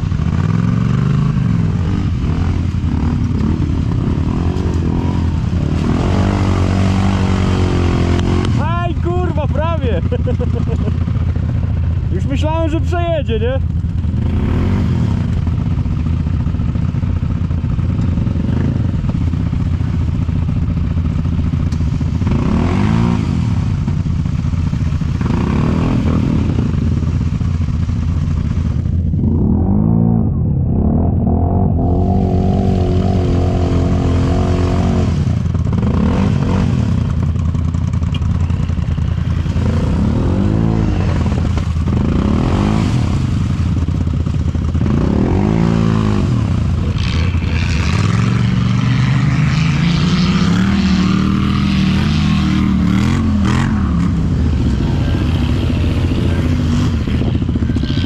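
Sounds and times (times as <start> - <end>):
vehicle engine revving: 0.0 - 11.0, 13.9 - 16.4, 22.2 - 23.9, 25.0 - 27.8, 28.4 - 58.0.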